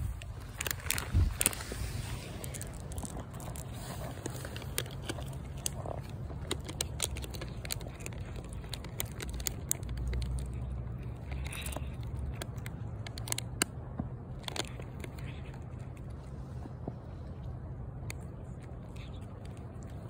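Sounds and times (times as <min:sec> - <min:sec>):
cat crunching dry kibble: 0:00.0 - 0:20.0
steady low rumble: 0:00.0 - 0:20.0.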